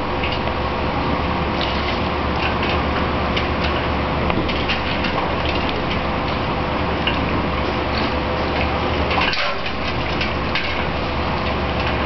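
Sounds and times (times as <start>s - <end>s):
water splashing and sloshing: 1.2s - 12.0s.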